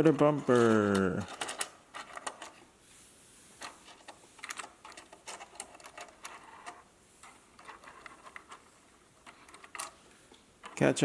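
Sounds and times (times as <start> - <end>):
plastic toy clicks and rattles: 0.0 - 2.6, 3.6 - 10.0.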